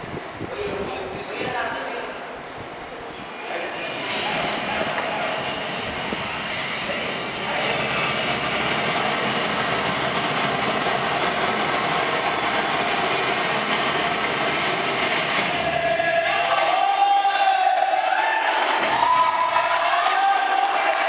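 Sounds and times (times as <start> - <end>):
crowd din in a hall: 0.0 - 21.0.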